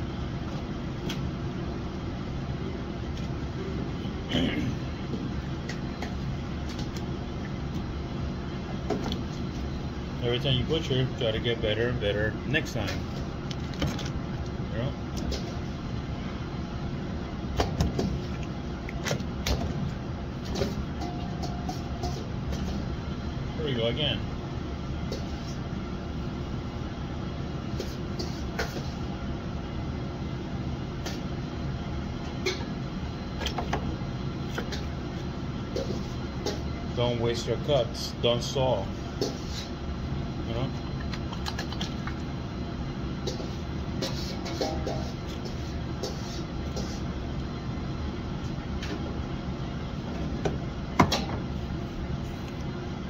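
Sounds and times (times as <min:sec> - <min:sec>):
ventilation hood running: 0:00.0 - 0:53.0.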